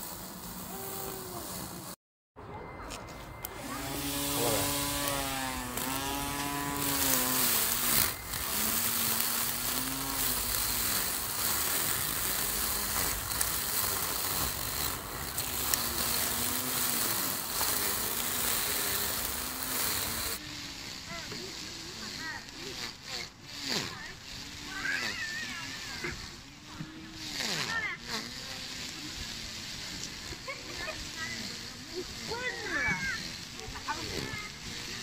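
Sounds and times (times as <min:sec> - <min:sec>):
string trimmer motor whining: 0:00.0 - 0:02.0, 0:02.9 - 0:35.0
trimmer line hissing through grass: 0:00.0 - 0:02.0, 0:02.9 - 0:35.0.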